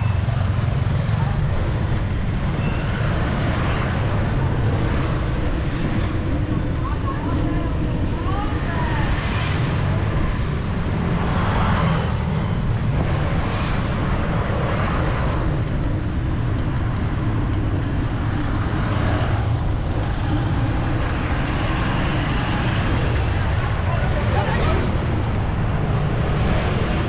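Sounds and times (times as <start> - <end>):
traffic passing close by: 0.0 - 27.0
wind rumble on microphone: 0.0 - 27.0.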